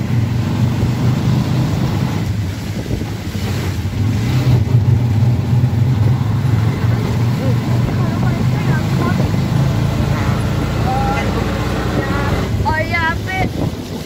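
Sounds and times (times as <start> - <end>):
auto-rickshaw engine droning: 0.0 - 13.2
road noise: 0.0 - 14.0.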